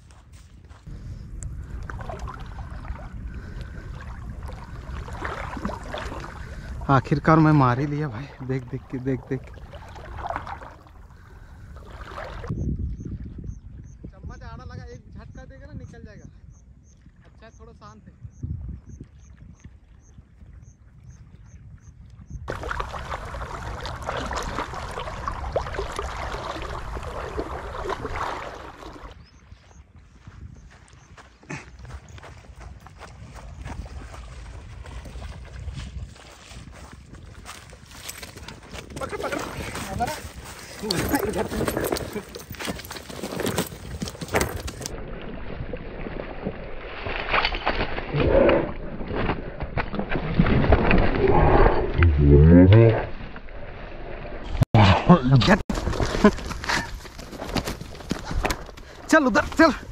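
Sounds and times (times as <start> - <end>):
water splashing and sloshing: 0.1 - 13.0, 18.8 - 29.4, 32.0 - 52.2, 52.9 - 59.9.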